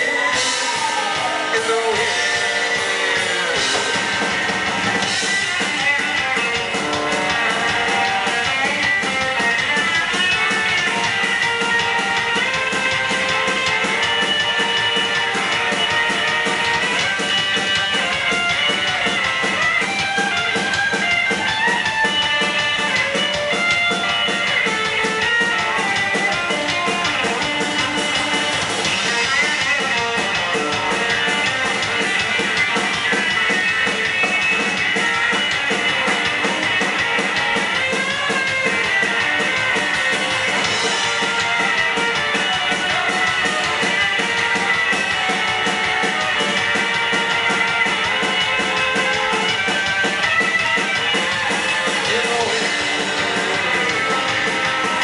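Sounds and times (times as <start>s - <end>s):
drums: 0.0s - 55.0s
electric guitar picking notes: 0.0s - 55.0s.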